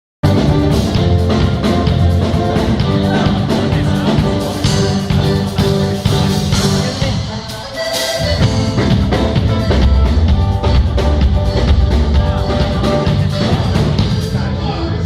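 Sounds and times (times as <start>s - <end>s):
guitar music with steady beat: 0.2s - 14.5s.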